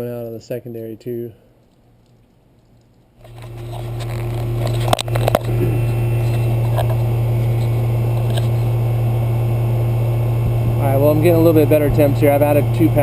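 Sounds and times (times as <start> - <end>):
air conditioner unit humming: 0.0 - 13.0.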